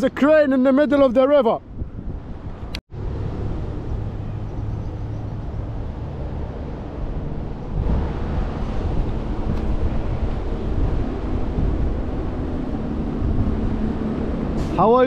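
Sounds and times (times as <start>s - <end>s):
wind rumbling on microphone: 1.6s - 15.0s.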